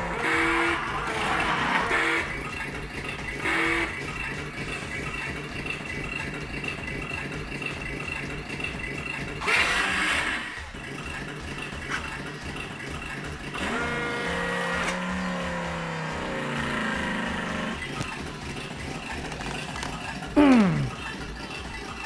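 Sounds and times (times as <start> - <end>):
electronic toy engine sound: 0.0 - 11.8, 12.5 - 19.3.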